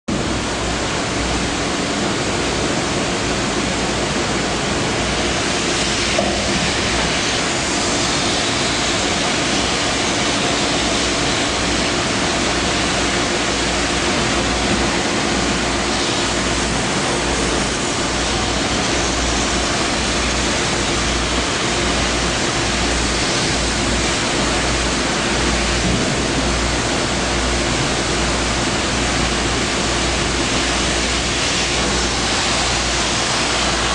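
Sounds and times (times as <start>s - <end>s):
spraying water rushing: 0.2s - 33.9s.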